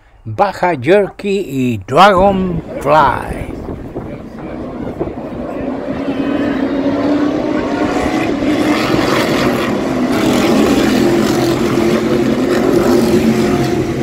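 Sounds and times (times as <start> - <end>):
race truck engines droning: 0.0 - 14.0.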